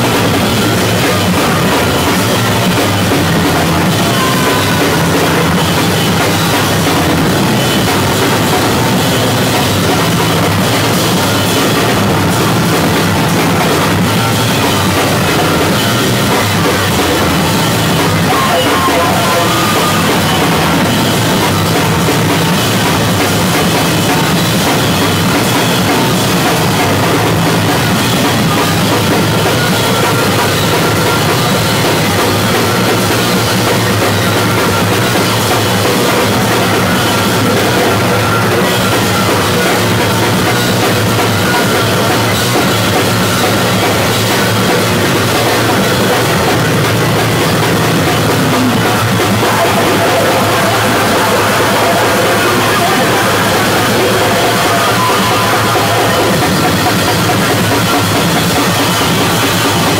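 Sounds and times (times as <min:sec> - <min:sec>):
distorted bass guitar: 0:00.0 - 0:59.9
frantic drumming with cymbals: 0:00.0 - 0:59.9.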